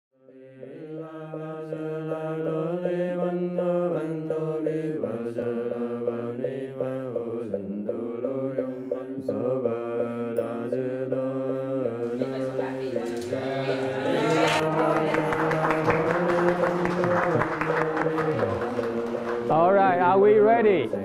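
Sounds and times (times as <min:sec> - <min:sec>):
group chanting: 0:00.2 - 0:21.0.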